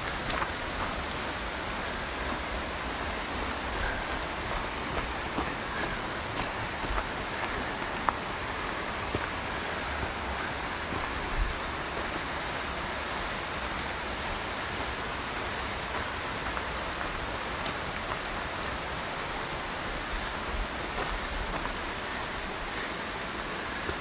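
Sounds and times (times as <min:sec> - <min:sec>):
creek rushing: 0:00.0 - 0:24.0.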